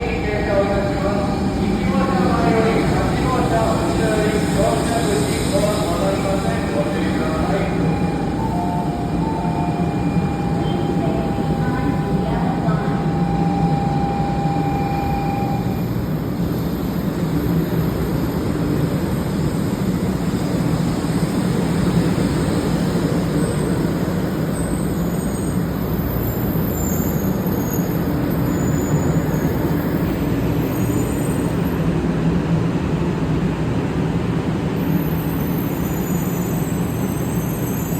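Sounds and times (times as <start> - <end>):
train low rumble and hum: 0.0 - 37.9.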